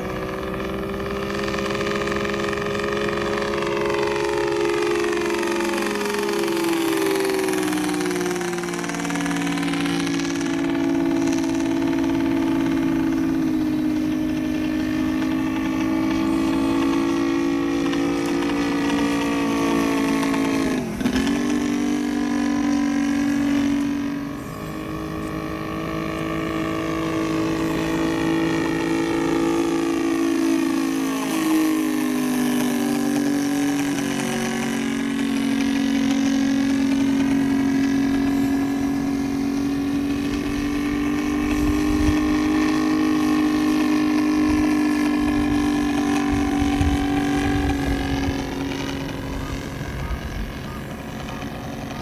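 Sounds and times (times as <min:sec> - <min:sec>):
model plane engine droning: 0:00.0 - 0:52.0.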